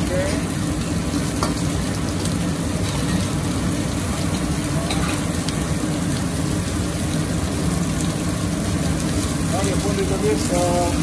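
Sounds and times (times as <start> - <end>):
food sizzling in a wok: 0.0 - 11.0
gas burner roaring: 0.0 - 11.0.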